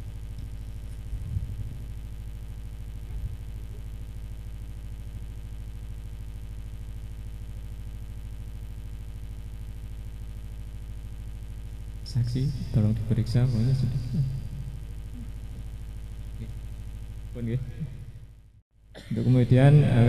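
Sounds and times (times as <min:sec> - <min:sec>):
low buzzing hum: 0:00.0 - 0:20.0.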